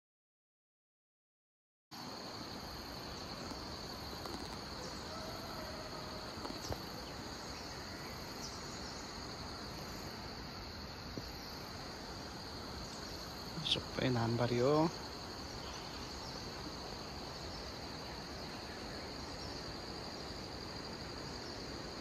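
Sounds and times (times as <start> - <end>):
insects chirring: 2.0 - 22.0.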